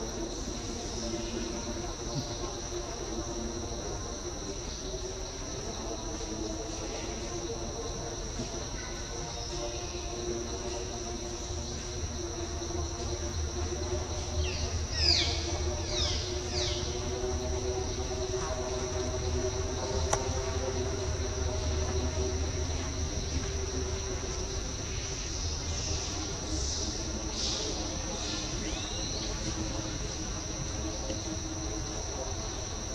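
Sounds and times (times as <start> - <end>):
insects droning high-pitched: 0.0 - 32.9.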